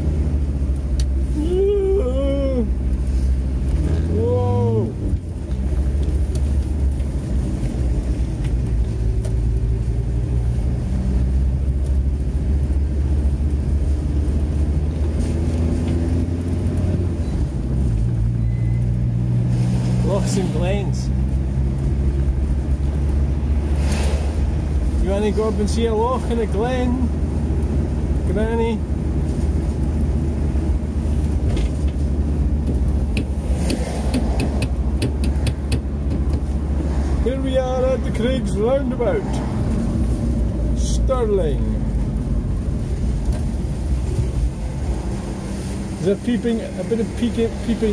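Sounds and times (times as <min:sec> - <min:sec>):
van engine and road drone: 0:00.0 - 0:47.9.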